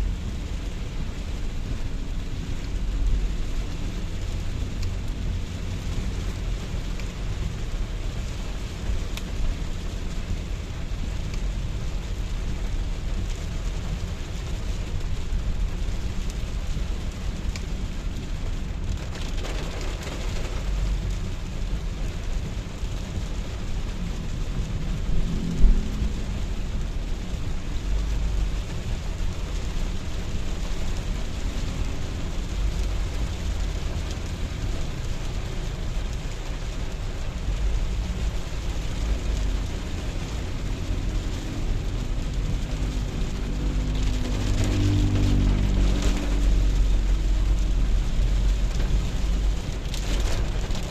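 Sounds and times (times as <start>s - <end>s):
deep uneven rumble: 0.0s - 50.9s
steady rain falling: 0.0s - 50.9s.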